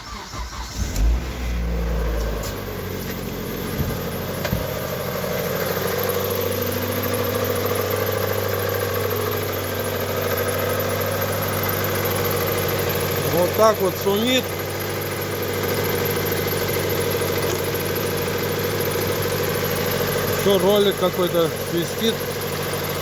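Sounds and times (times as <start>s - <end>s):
car engine revving and idling: 0.0s - 23.0s.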